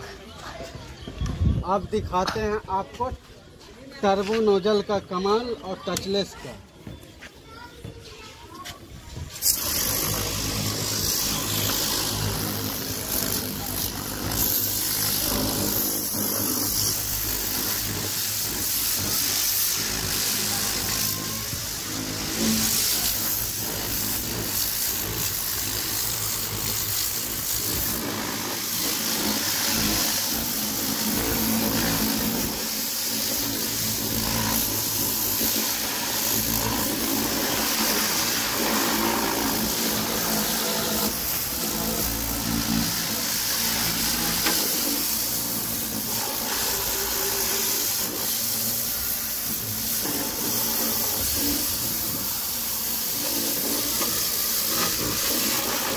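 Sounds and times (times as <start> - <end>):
pressure washer jet hissing: 9.2 - 55.9
pump motor humming: 9.4 - 55.9.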